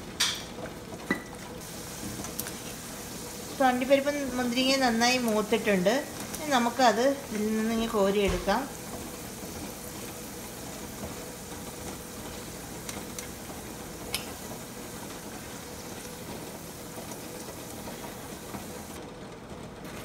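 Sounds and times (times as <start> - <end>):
nuts deep-frying in oil: 0.0 - 19.0.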